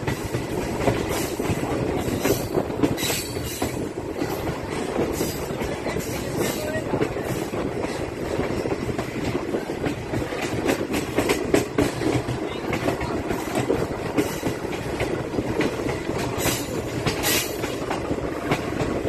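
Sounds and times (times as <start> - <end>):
train wheels clattering on track: 0.0 - 19.0.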